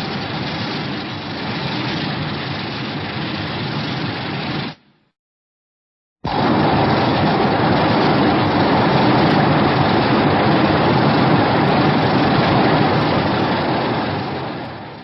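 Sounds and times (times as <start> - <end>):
loud steady rushing noise: 0.0 - 4.8, 6.2 - 15.0.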